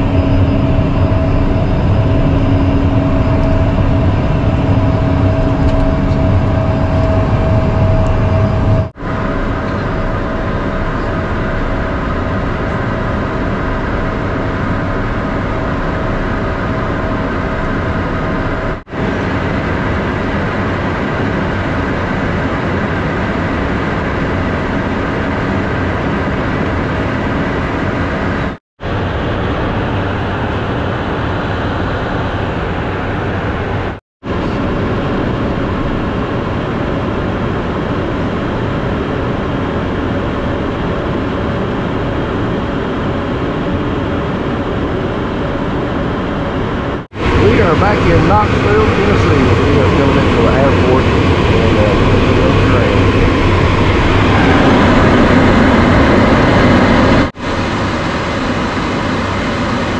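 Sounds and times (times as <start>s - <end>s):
jet cockpit air and engine rush: 0.0s - 59.9s
steady hums: 0.0s - 59.9s.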